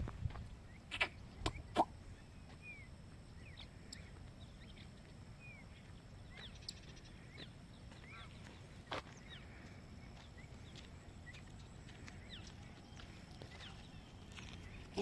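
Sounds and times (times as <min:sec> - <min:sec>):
birds chirping and whistling: 0:00.7 - 0:09.5, 0:10.1 - 0:15.0.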